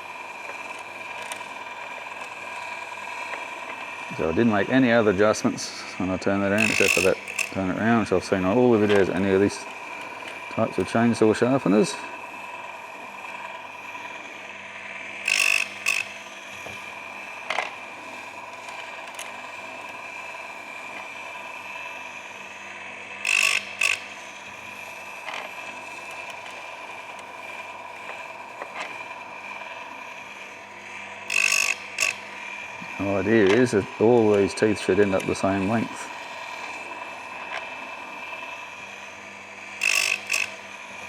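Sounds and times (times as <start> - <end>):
chain sharpener whining: 0.0 - 41.0
grinding wheel grinding chain: 0.0 - 41.0.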